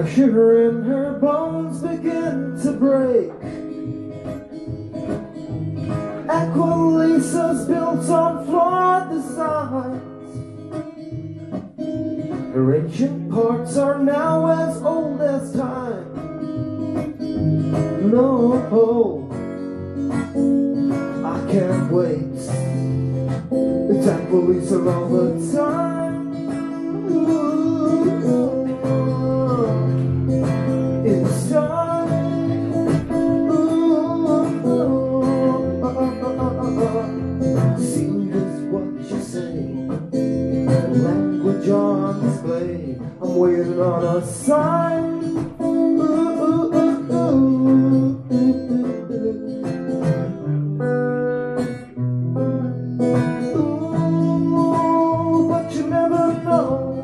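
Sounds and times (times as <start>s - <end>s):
man singing: 0.0s - 50.6s, 53.0s - 57.0s
acoustic guitar strumming: 0.0s - 57.0s.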